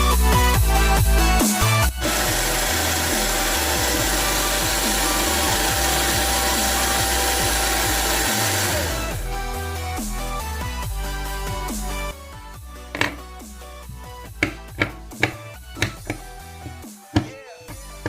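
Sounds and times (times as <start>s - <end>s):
electronic dance music: 0.0s - 18.0s.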